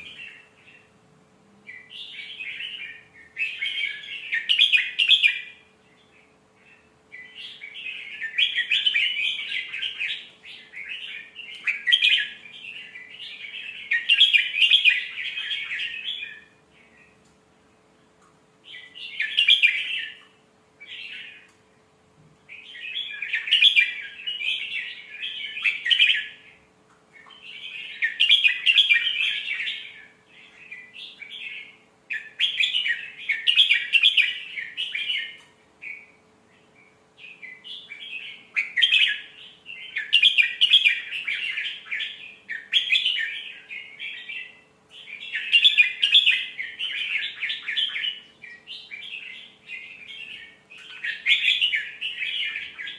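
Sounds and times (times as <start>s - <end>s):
bird singing warbling phrases: 0.0s - 1.0s, 1.6s - 17.3s, 18.6s - 21.8s, 22.4s - 52.9s
faint steady hum: 0.0s - 52.9s.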